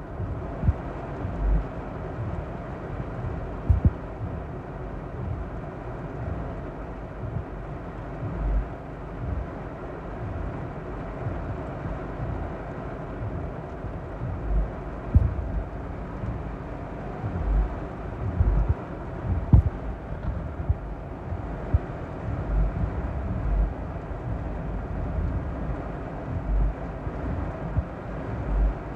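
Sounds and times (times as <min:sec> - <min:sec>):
low thumps: 0:00.0 - 0:02.5, 0:03.2 - 0:04.6, 0:05.2 - 0:05.5, 0:07.2 - 0:07.6, 0:08.2 - 0:09.6, 0:10.2 - 0:10.6, 0:11.2 - 0:12.6, 0:13.2 - 0:28.9
heavy rain on car roof: 0:00.0 - 0:28.9.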